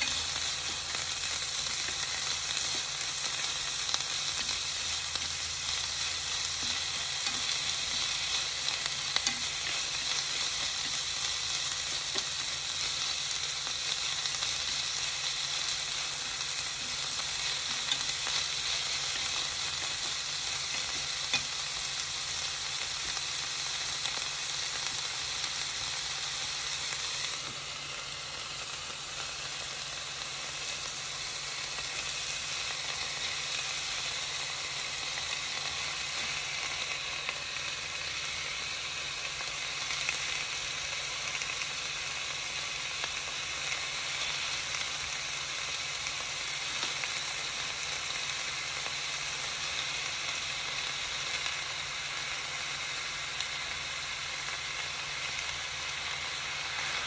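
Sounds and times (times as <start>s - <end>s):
onion and peppers sizzling: 0.0s - 57.0s.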